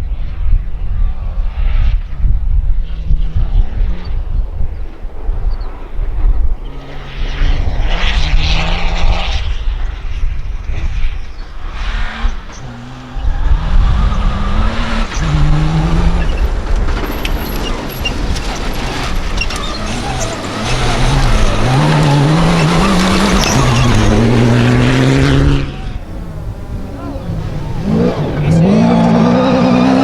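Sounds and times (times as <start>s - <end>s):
rally car engine revving: 0.8s - 30.0s.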